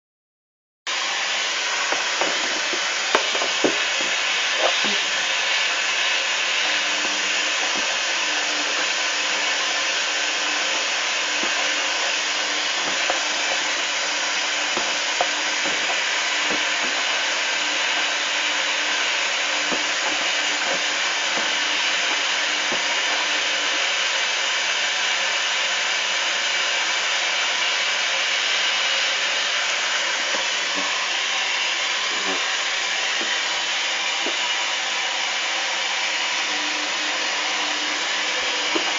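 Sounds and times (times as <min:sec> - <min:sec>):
washing machine rinsing: 0:01.1 - 0:25.4, 0:29.8 - 0:38.9.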